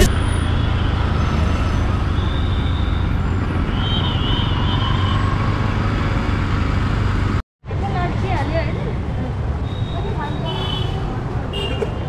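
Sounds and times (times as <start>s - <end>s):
motorcycle engine and road noise: 0.0s - 12.0s.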